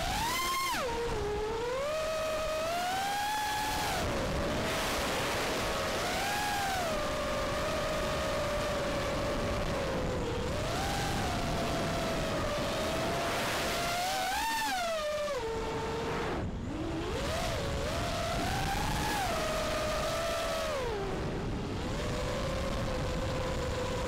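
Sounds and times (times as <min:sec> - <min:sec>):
drone motors whining: 0:00.0 - 0:24.0
wind rush: 0:02.4 - 0:24.0.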